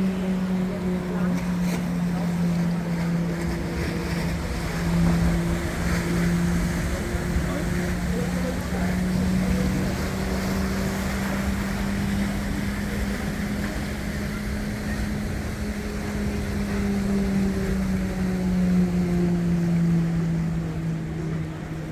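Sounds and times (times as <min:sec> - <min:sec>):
boat engine humming: 0:00.0 - 0:21.9.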